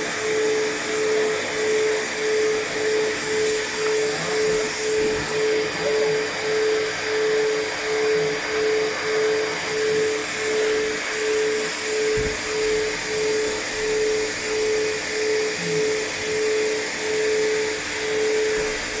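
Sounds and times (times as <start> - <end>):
blow dryer running: 0.0 - 19.0.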